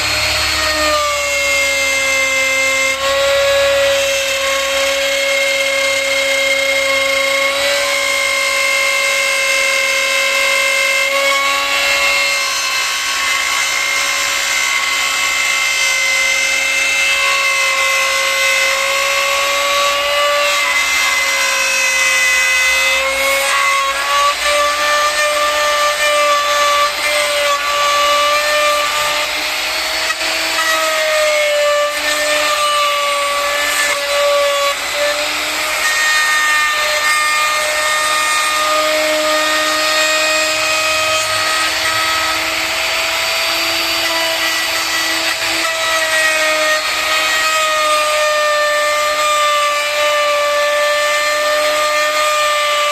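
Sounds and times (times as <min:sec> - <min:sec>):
power tool whining on wood: 0:00.0 - 0:52.9.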